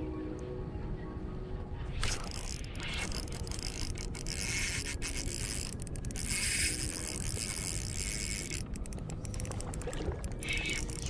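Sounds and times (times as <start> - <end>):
fishing reel whirring: 2.0 - 11.0.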